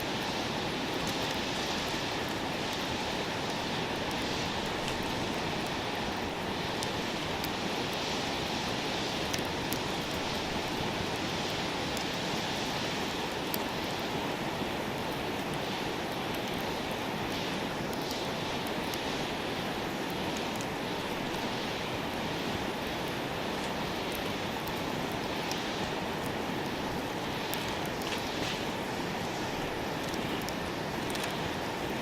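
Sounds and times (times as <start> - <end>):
campfire crackles: 0.0 - 32.0
steady rushing hiss: 0.0 - 32.0.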